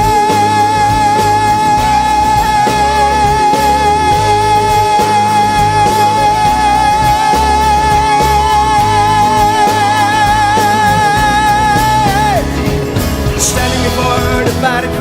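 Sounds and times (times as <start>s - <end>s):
high note held with vibrato: 0.0s - 13.2s
blues-rock band playing: 0.0s - 15.0s.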